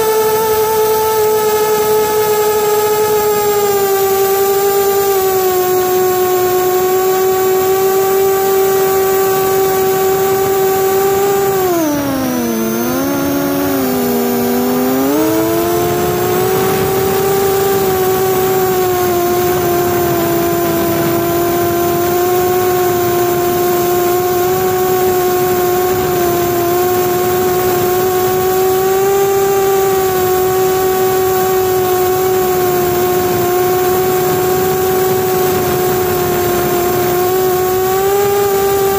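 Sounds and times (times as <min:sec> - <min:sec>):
quadcopter propellers whining: 0:00.0 - 0:38.9.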